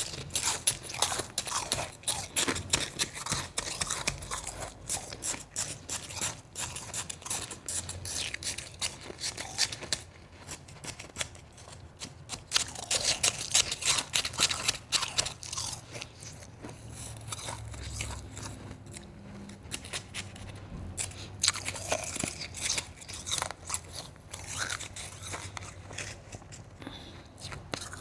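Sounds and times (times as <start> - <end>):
crunching and chewing ice: 0.0 - 28.0.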